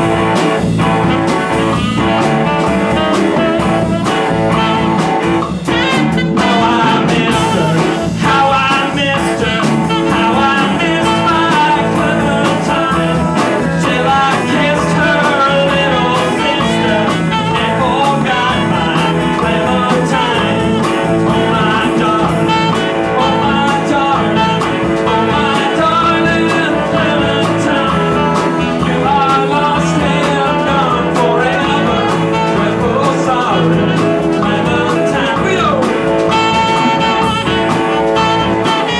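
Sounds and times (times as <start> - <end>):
electric guitar lines: 0.0 - 38.9
live band playing: 0.0 - 38.9.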